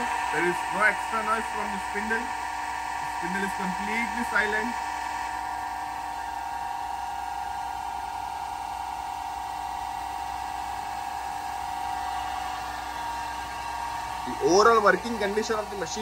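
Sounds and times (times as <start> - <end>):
milling machine whine: 0.0 - 16.0.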